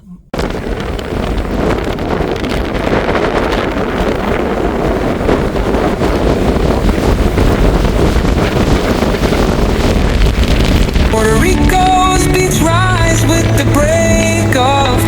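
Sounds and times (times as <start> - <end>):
strong wind buffeting microphone: 0.3 - 15.0.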